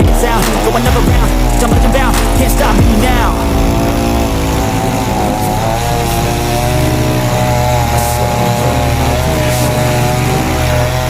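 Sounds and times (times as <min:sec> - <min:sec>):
chainsaw cutting wood: 0:00.0 - 0:11.0.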